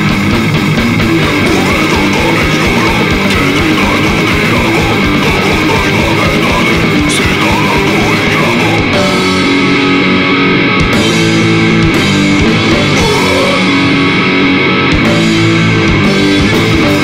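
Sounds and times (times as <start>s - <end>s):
distorted electric guitars: 0.0s - 17.0s
rapid drumming: 0.0s - 17.0s.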